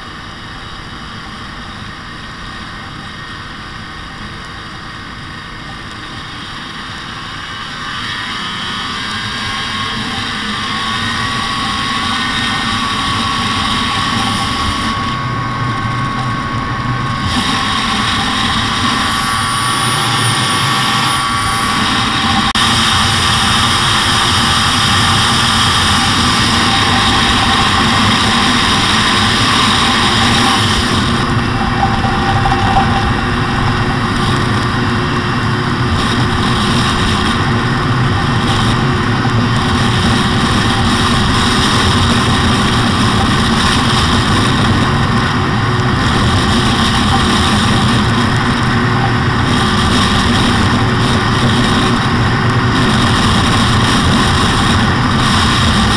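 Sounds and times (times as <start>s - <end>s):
snowmobile engines running: 0.0s - 55.9s.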